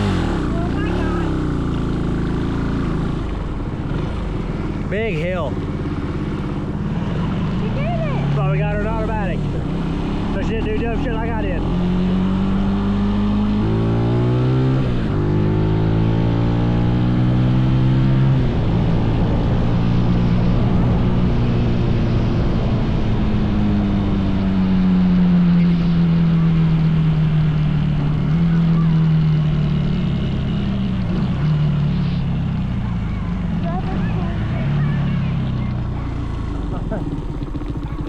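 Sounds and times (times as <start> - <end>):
mini bike engine running: 0.0 - 17.7, 20.4 - 38.0.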